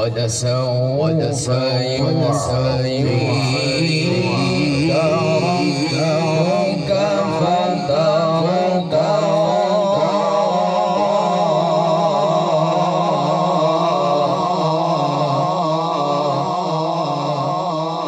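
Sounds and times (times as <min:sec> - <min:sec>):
man chanting through microphone: 0:00.0 - 0:18.0.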